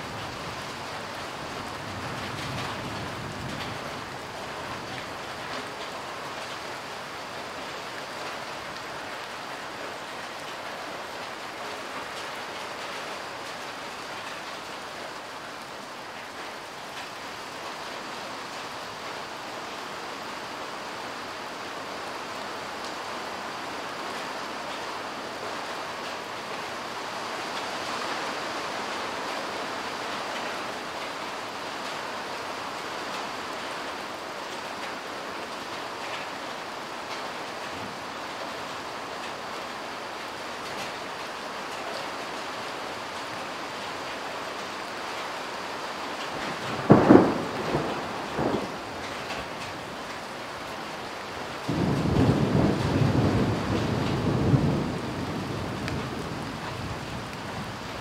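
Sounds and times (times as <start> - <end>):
light rain on cars and ground: 0.0 - 58.0.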